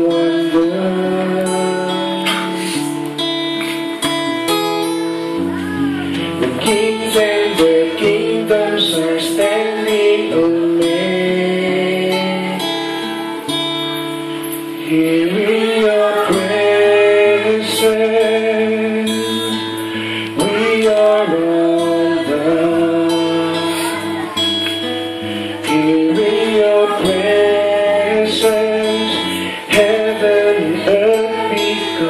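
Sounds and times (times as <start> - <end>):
man singing a slow worship song: 0.0 - 3.3, 5.7 - 32.0
strummed acoustic guitar: 0.0 - 32.0.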